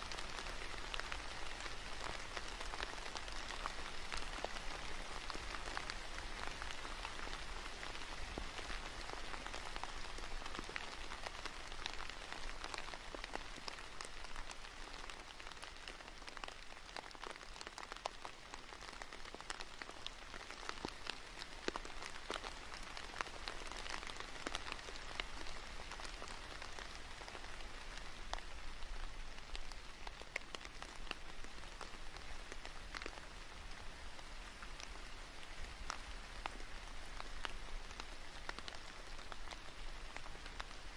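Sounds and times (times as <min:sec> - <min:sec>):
raindrops tapping close by: 0:00.0 - 0:40.9
steady rain: 0:00.0 - 0:40.9.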